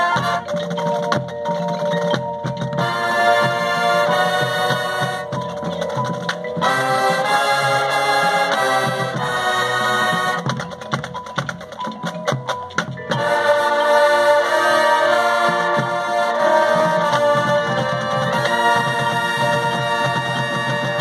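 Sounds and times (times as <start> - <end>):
clicking percussion: 0.0 - 21.0
marching band wind and brass chords: 0.0 - 21.0.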